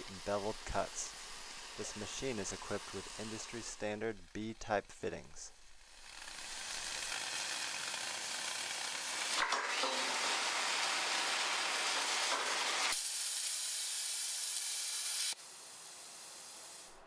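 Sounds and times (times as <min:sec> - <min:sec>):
cutting torch hissing and sizzling: 0:00.0 - 0:04.8, 0:05.5 - 0:17.0.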